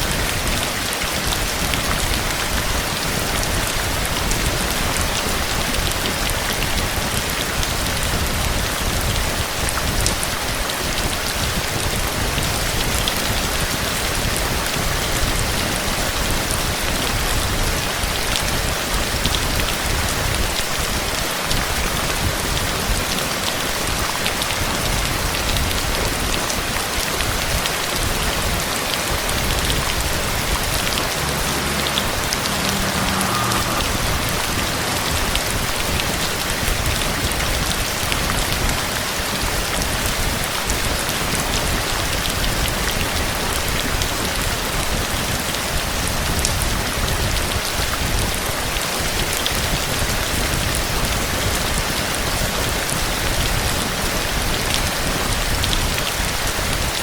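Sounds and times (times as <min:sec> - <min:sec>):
heavy rain drumming on surfaces: 0:00.0 - 0:57.0.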